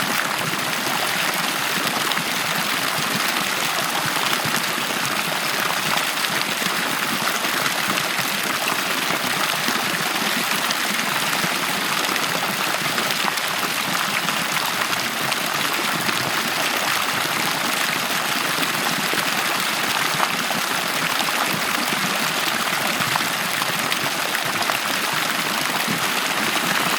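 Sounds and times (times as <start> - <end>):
pool water running and splashing: 0.0 - 26.9.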